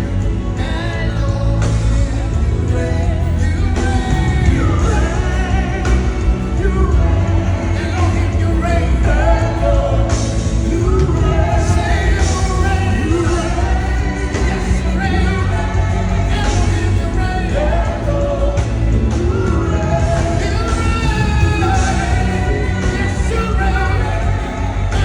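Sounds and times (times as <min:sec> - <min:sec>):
heavy bass: 0:00.0 - 0:25.0
person singing: 0:00.0 - 0:25.0
worship band playing: 0:00.0 - 0:25.0.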